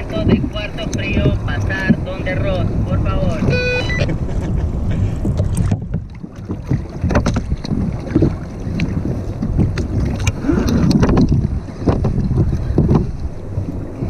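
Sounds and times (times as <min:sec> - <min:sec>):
water moving against kayak: 0:00.0 - 0:14.0
wind buffeting microphone: 0:00.0 - 0:14.0.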